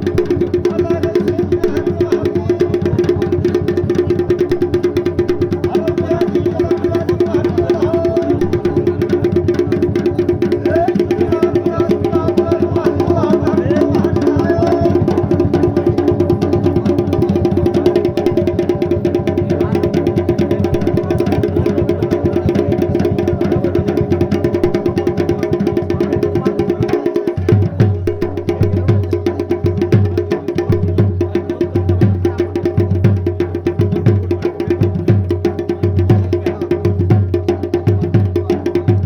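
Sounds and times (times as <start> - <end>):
rapid folk drumming: 0.0 - 39.0.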